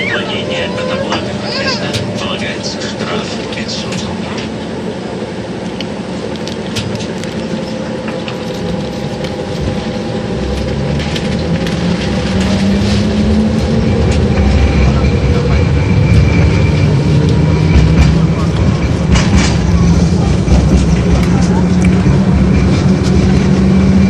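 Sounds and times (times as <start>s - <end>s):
steady high whine: 0.0s - 24.0s
tram rumbling on rails: 0.0s - 24.0s.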